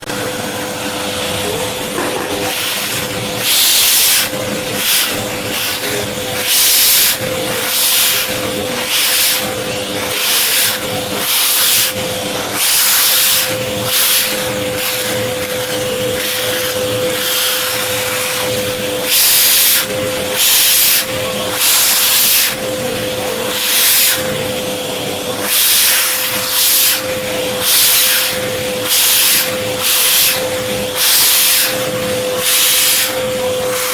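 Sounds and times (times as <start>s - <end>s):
vacuum cleaner motor whine: 0.0s - 33.9s.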